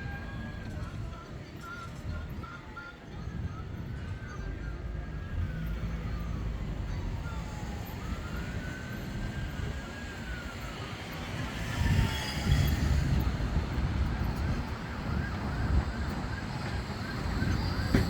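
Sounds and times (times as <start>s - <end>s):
emergency vehicle siren wailing: 0.0s - 18.0s.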